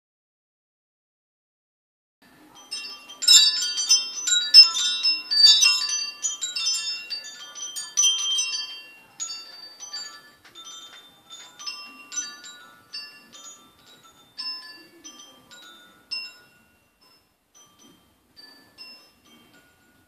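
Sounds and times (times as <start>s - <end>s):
wind chime tubes jangling: 2.4s - 20.0s.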